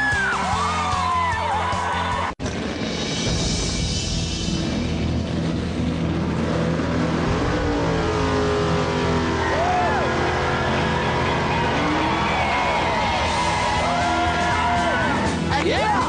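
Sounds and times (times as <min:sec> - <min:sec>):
background music: 0:00.0 - 0:16.0
car engine revving: 0:02.5 - 0:15.5.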